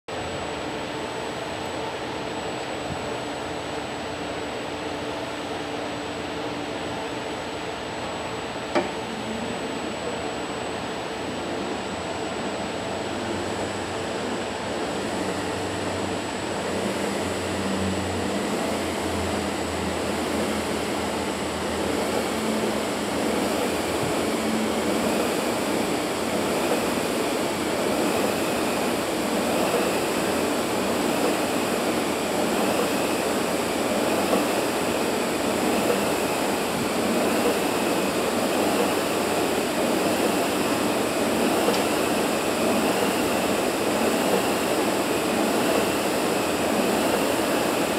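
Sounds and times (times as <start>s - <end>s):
flywheel fan rushing air: 5.3s - 47.9s.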